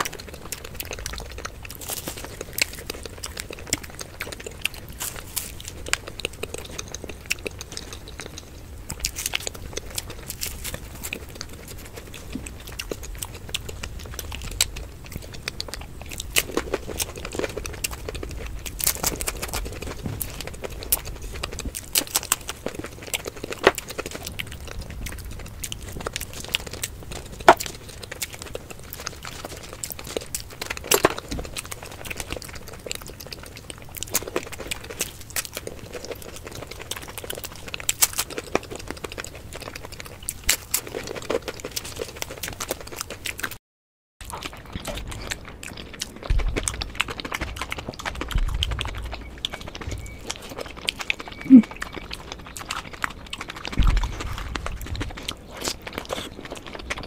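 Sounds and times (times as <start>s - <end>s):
chewing and crunching crisp snacks: 0.0s - 43.6s, 44.2s - 57.0s.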